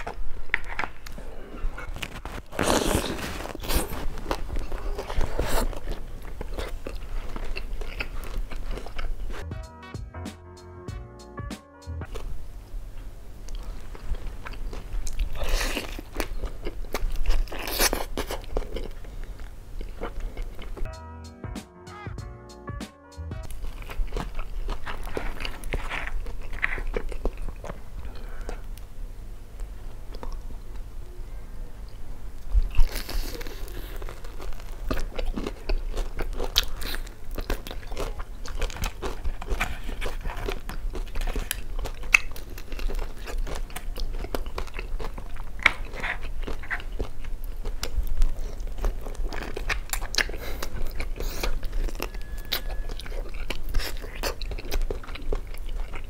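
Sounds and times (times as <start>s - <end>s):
crunching fried chicken: 0.0s - 9.5s, 13.5s - 20.9s, 23.4s - 28.9s, 32.4s - 56.0s.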